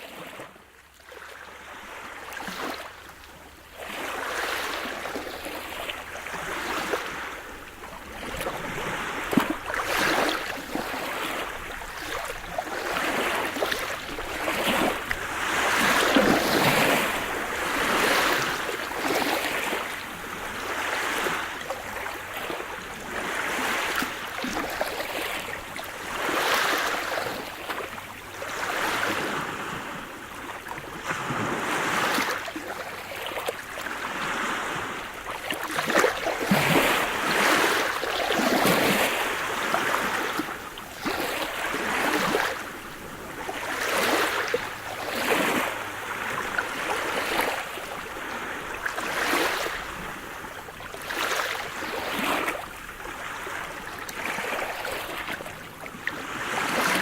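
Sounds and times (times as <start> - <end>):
waves breaking: 0.1 - 57.0.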